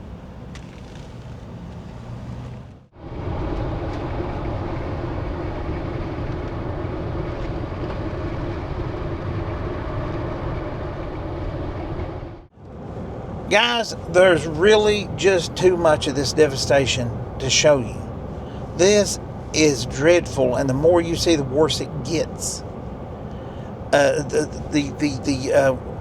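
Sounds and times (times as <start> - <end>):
vehicle driving rumble: 0.0 - 26.0.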